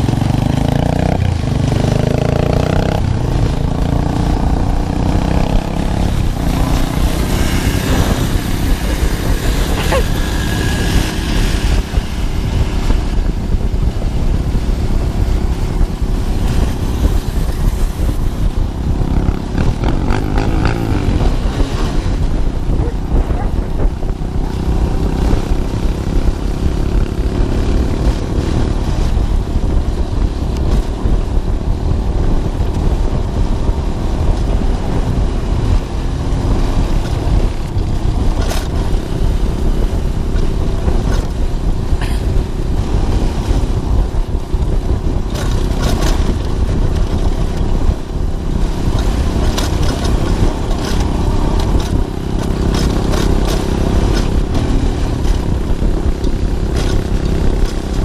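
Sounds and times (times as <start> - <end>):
motorcycle engine cruising: 0.0 - 58.0
road noise: 0.0 - 58.0
wind noise: 0.0 - 58.0.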